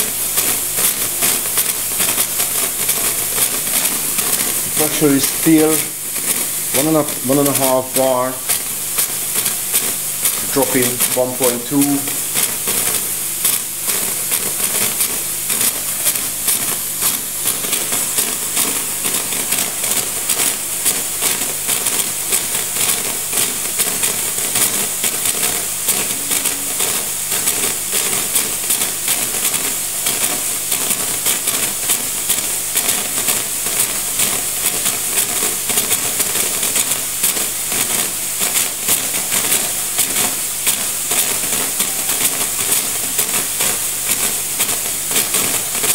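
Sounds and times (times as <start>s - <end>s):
steam wand hissing: 0.0s - 45.9s.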